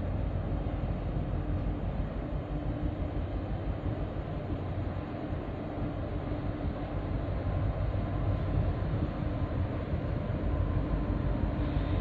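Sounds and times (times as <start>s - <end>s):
faint steady hum: 0.0s - 12.0s
ship engines rumbling: 0.0s - 12.0s.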